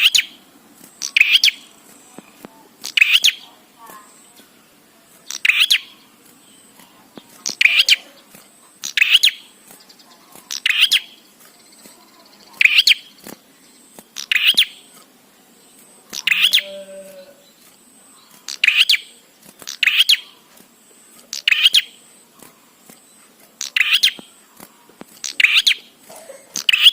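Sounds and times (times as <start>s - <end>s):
bird chirping: 0.0s - 26.9s.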